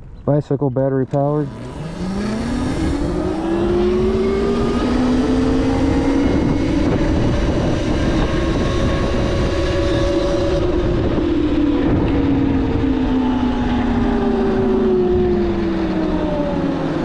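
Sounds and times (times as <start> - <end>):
wind buffeting microphone: 0.0 - 17.0
electric motorbike motor whining: 1.0 - 17.0.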